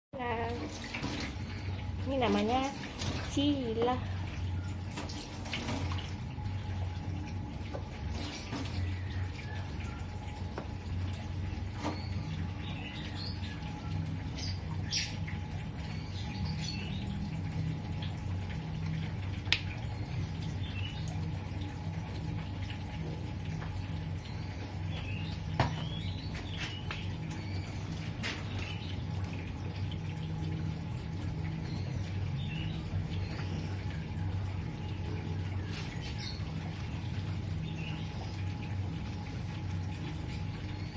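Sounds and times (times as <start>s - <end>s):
steady low hum: 0.2s - 40.9s
water dripping and trickling: 0.2s - 40.9s.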